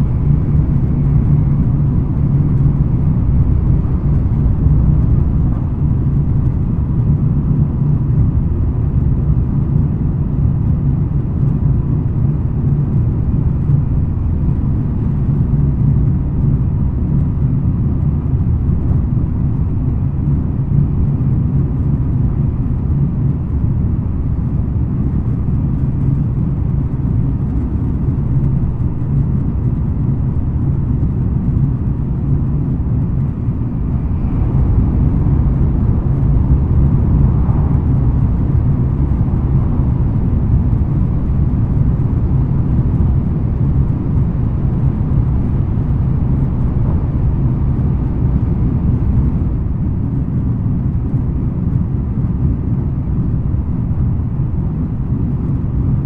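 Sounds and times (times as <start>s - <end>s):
train car low rumble: 0.0s - 56.0s.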